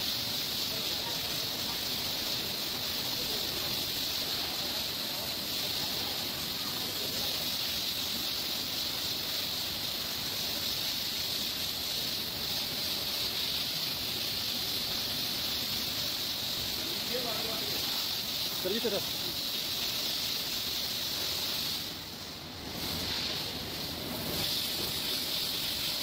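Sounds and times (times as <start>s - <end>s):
pressure washer spraying water: 0.0s - 26.0s.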